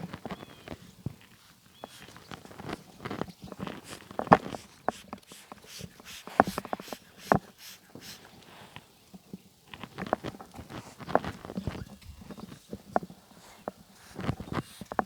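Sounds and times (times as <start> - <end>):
horse hoof knocks and scuffs: 0.0 - 8.2, 9.7 - 15.0.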